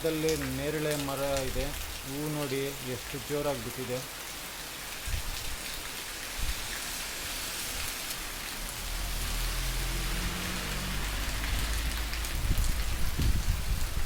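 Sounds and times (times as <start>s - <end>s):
heavy rain on ground: 0.0s - 14.0s.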